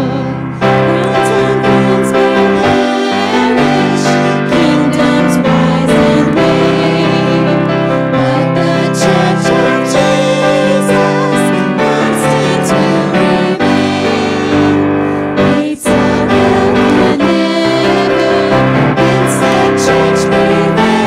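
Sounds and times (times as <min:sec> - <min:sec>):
group of people singing: 0:00.0 - 0:21.0
keyboard accompaniment: 0:00.0 - 0:21.0.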